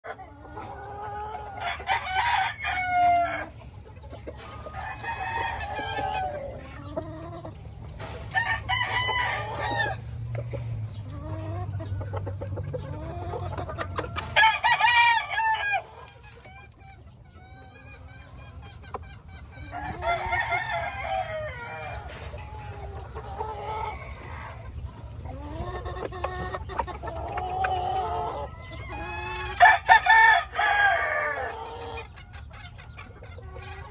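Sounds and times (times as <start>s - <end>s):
roosters crowing: 0.0s - 18.6s, 19.4s - 32.2s.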